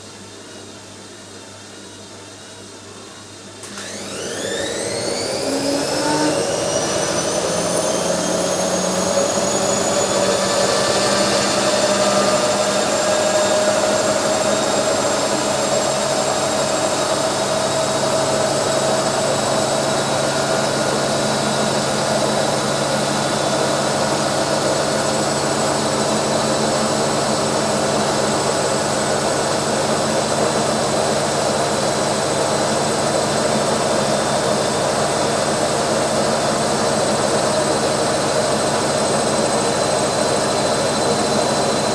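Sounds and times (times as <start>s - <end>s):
washing machine spinning: 3.0s - 41.9s.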